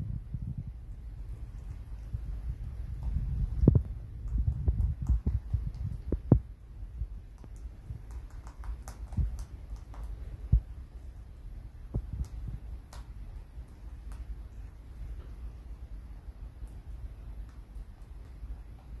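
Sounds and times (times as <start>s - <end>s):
rabbit chewing toy: 0.3s - 19.0s.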